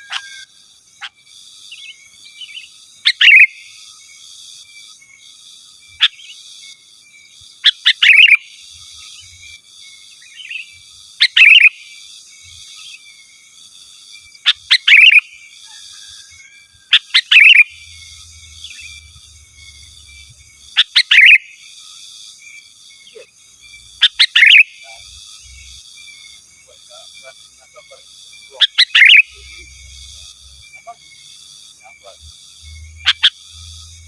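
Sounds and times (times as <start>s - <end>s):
bulbul singing: 0.0s - 4.2s, 7.3s - 9.6s, 10.2s - 13.0s, 14.3s - 34.0s
high background hiss: 0.0s - 34.0s.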